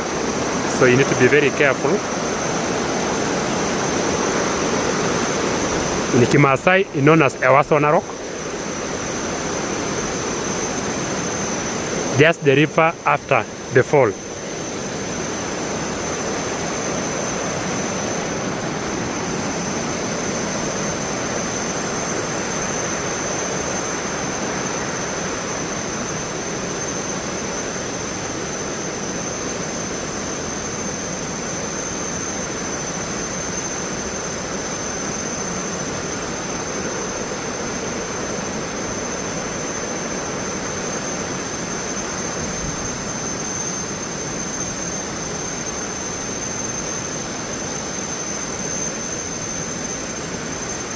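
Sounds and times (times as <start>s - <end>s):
river white water rushing: 0.0s - 50.9s
thin high whine: 0.0s - 50.9s.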